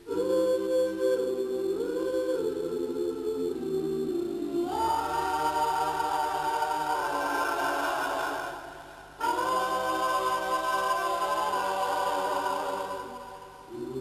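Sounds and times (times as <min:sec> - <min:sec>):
choir singing held chords: 0:00.0 - 0:14.0.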